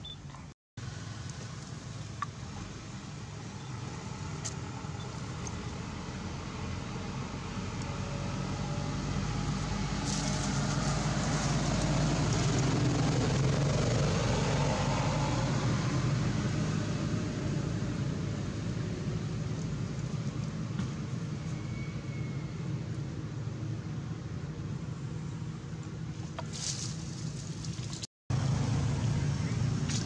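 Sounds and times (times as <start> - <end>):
low rumble with hiss: 0.0 - 13.9, 15.0 - 30.0.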